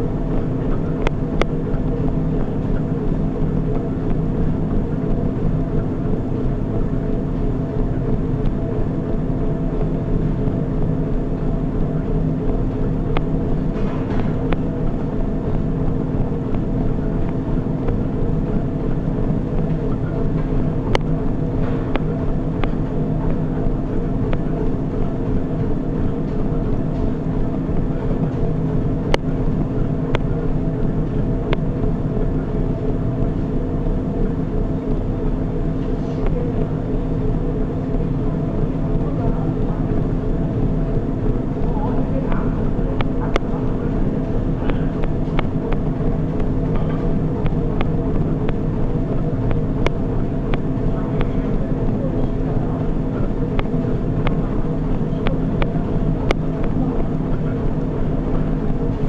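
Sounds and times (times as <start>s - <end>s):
treadmill motor hum and belt: 0.0s - 59.0s.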